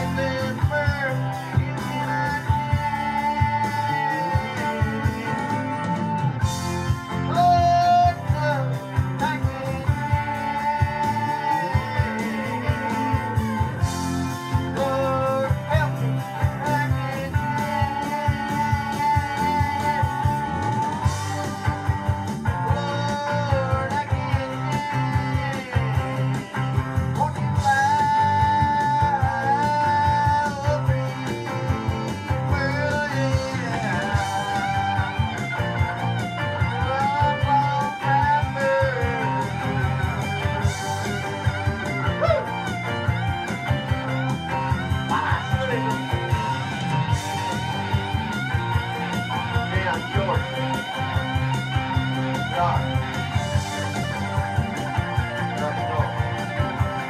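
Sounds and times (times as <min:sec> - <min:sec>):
electric guitar lead: 0:00.0 - 0:57.0
southern rock music: 0:00.0 - 0:57.0.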